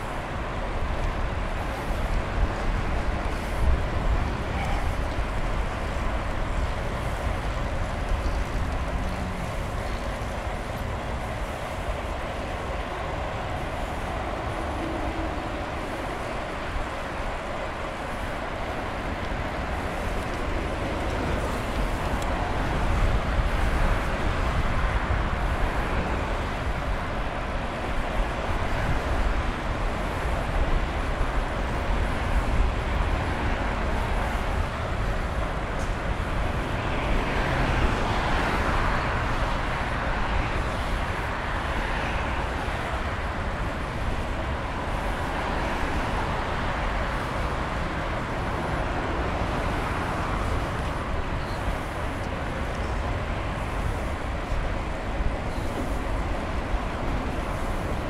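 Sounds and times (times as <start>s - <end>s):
road traffic: 0.0s - 58.0s.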